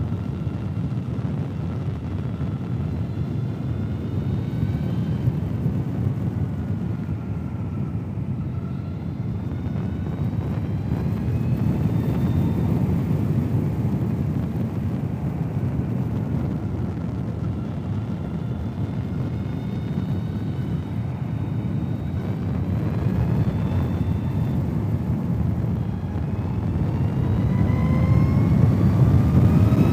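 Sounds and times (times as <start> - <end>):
tyre and wind rumble: 0.0 - 29.9
electric motor whine: 0.1 - 29.9.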